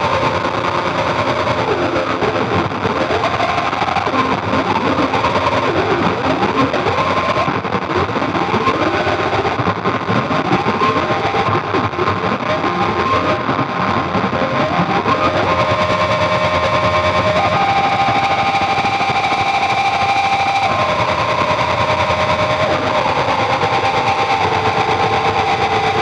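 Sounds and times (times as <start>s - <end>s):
distorted synthesizer noise drone: 0.0s - 26.0s.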